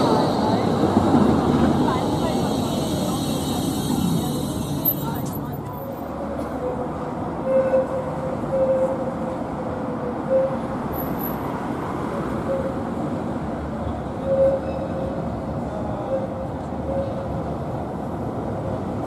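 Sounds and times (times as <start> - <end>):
tram tone: 0.0 - 19.0
tram wheels rumbling on track: 0.0 - 19.0.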